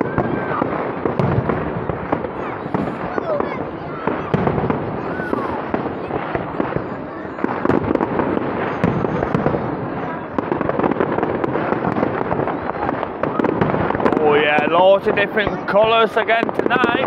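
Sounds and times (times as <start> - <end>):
fireworks crackling and popping: 0.0 - 17.0
fireworks shells bursting: 0.0 - 17.0.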